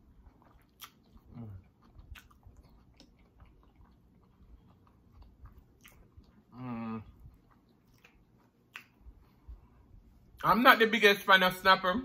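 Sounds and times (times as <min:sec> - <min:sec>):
person chewing: 0:00.0 - 0:10.4.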